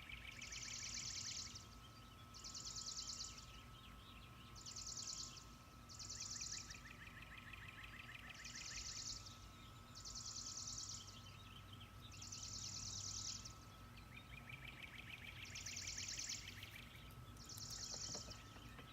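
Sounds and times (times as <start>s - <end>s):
faint steady tone: 0.0s - 18.9s
lower bird trill: 0.0s - 18.9s.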